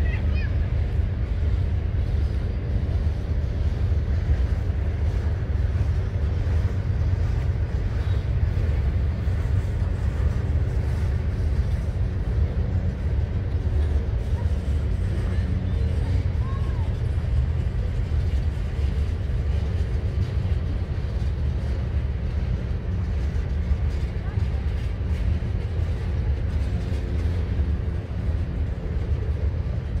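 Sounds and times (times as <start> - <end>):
freight train rolling past: 0.0 - 30.0.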